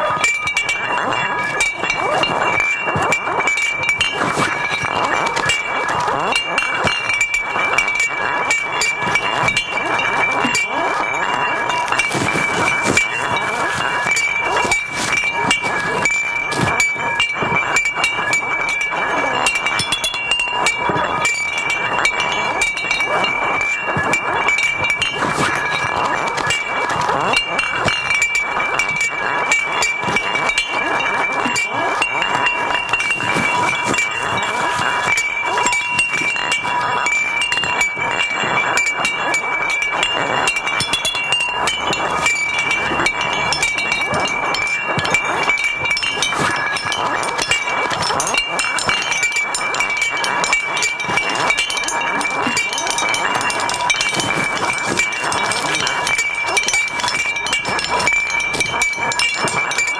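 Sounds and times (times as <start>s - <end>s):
cans clinking and rattling: 0.0s - 59.9s
steady ringing tones: 0.0s - 59.9s.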